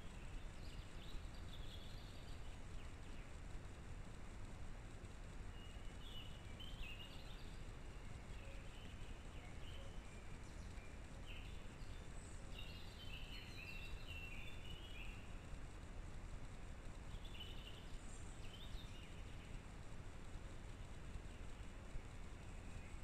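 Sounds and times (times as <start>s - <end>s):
songbird chirping: 0.0s - 4.4s, 5.0s - 23.0s
steady low background hiss: 0.0s - 23.0s.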